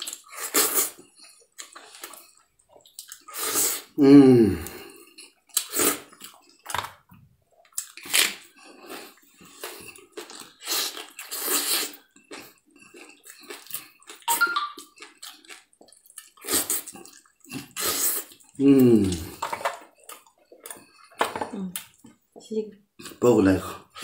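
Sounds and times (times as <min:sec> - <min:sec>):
wet chewing and slurping: 0:00.0 - 0:04.0, 0:04.6 - 0:06.8, 0:07.5 - 0:22.2.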